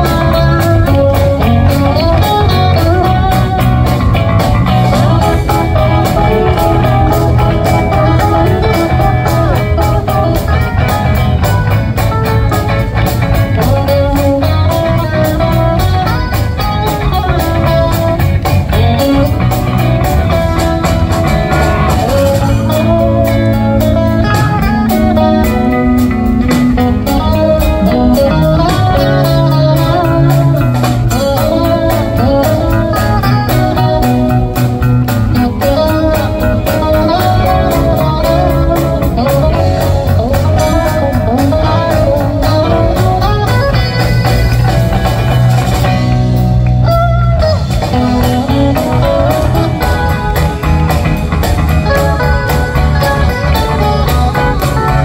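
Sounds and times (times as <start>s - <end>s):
bass guitar: 0.0s - 55.0s
drum kit steady beat: 0.0s - 55.0s
electric guitar lead: 0.0s - 55.0s.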